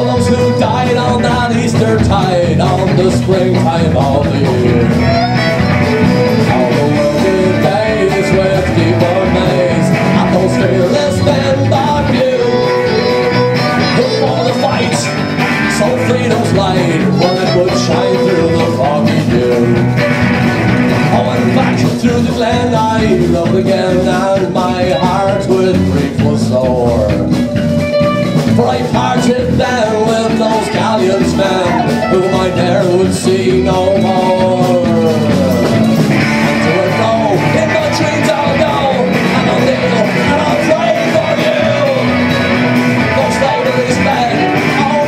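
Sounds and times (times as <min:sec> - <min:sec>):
fiddle melody: 0:00.0 - 0:21.5, 0:27.3 - 0:45.0
rock band playing: 0:00.0 - 0:45.0.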